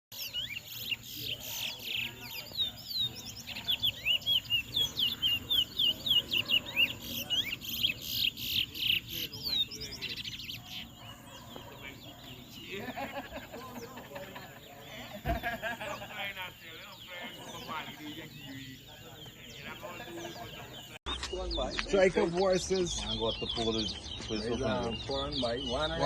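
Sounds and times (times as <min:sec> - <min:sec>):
caged finches chirping: 0:00.2 - 0:26.0.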